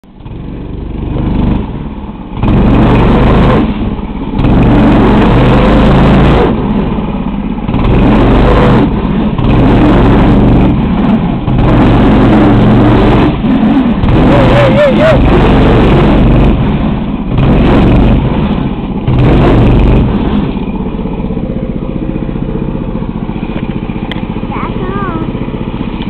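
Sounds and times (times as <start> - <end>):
buggy engine revving: 0.0 - 26.0
vehicle pushing through brush: 0.2 - 26.0.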